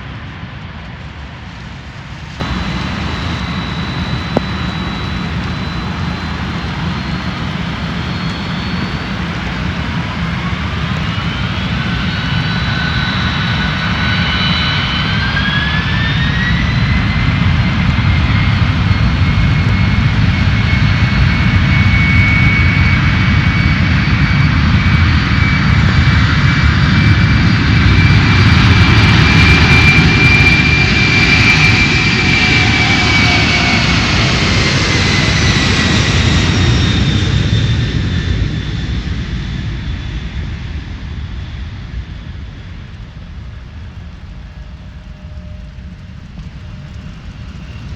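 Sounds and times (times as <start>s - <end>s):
jet engines whining and rumbling: 1.9s - 47.9s.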